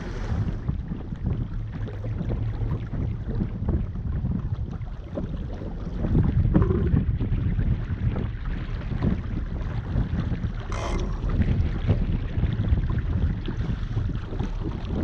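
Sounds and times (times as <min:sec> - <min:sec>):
water moving along hull: 0:00.0 - 0:15.0
wind rumbling on microphone: 0:00.0 - 0:15.0.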